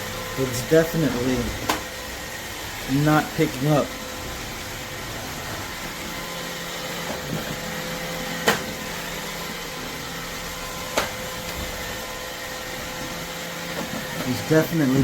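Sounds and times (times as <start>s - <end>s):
robot vacuum motor hum: 0.0s - 15.0s.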